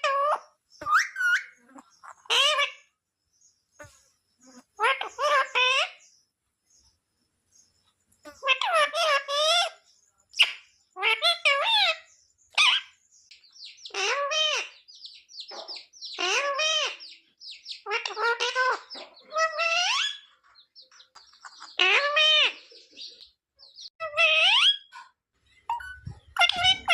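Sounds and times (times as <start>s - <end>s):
parrot calling: 0.0s - 2.9s, 3.8s - 6.1s, 8.3s - 9.8s, 10.4s - 13.0s, 13.7s - 26.9s.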